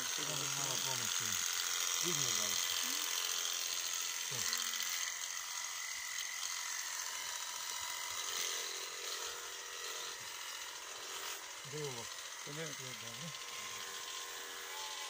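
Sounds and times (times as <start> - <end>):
electric shears buzzing: 0.0 - 15.0.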